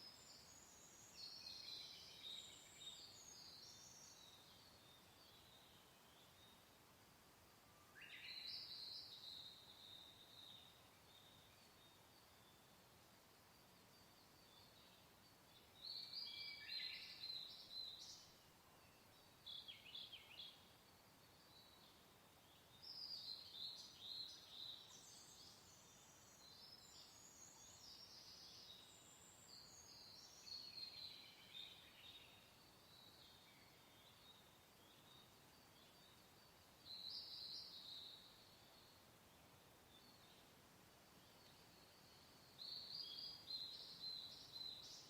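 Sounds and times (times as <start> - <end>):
songbird chirping and trilling: 0.0 - 6.8, 7.8 - 12.8, 13.8 - 40.6, 41.2 - 45.0
soft background hiss: 0.0 - 45.0.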